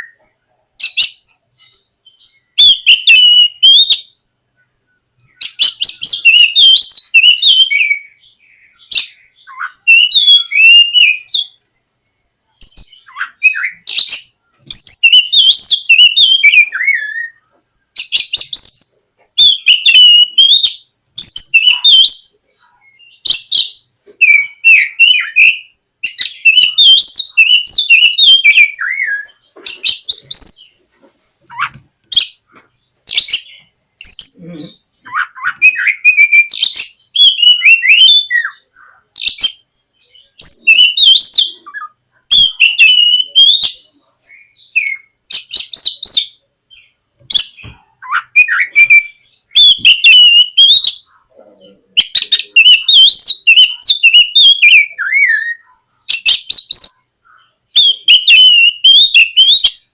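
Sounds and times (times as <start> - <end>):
bird singing whistled phrases: 0.8 - 4.2, 4.9 - 11.6, 12.6 - 17.4, 18.0 - 30.7, 33.1 - 59.9.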